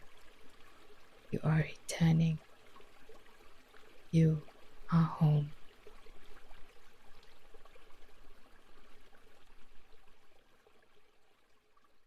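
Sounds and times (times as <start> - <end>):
waterfall splashing and trickling: 0.0 - 12.0.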